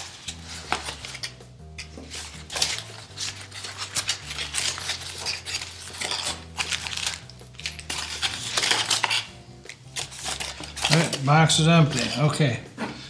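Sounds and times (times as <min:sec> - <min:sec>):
cardboard rustling and scraping: 0:00.0 - 0:09.3, 0:09.9 - 0:13.0
small hard parts clinking: 0:00.2 - 0:12.6.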